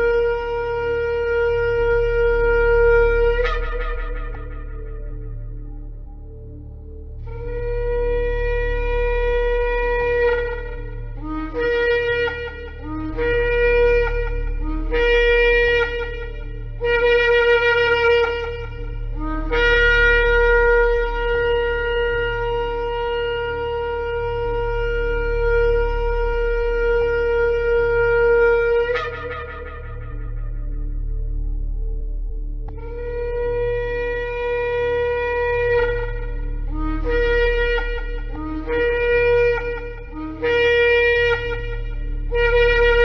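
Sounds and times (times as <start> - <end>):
ram's horn blasts: 0.0 - 32.0, 32.6 - 43.0
steady low hum: 0.0 - 43.0.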